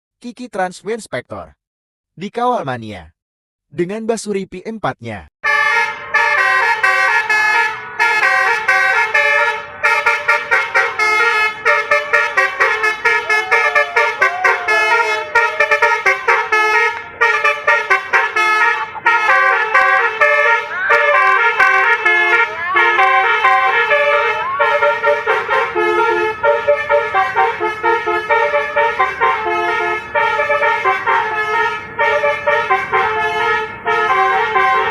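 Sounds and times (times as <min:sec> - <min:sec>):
bus musical horn melody: 0:05.4 - 0:34.9.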